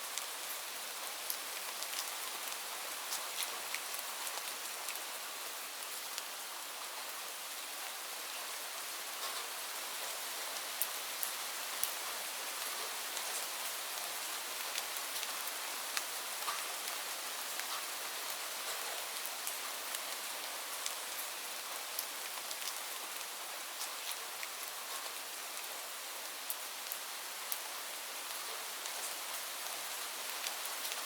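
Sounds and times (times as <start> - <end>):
rain drops ticking: 0.1 - 5.1, 10.5 - 25.7, 26.3 - 31.0.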